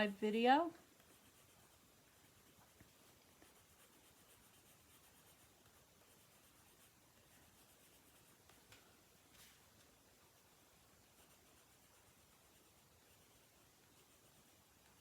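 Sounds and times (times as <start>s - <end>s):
colored pencil scratching on paper: 0.6s - 8.7s, 11.0s - 15.0s.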